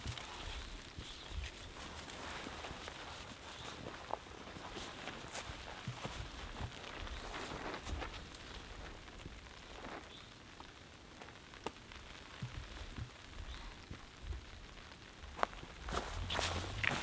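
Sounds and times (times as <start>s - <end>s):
light rain hissing: 0.0s - 17.0s
sharp rain ticks: 0.0s - 17.0s.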